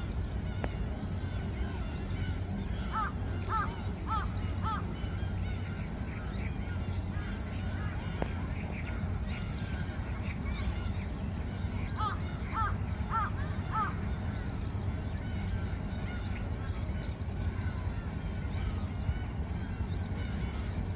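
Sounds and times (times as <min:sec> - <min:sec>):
gulls calling: 0:00.0 - 0:20.9
steady low rumble: 0:00.0 - 0:20.9.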